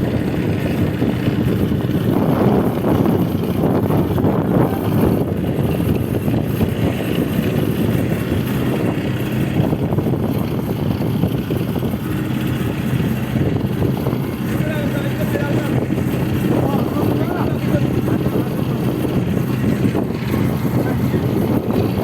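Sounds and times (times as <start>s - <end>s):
loader engine humming: 0.0s - 22.0s.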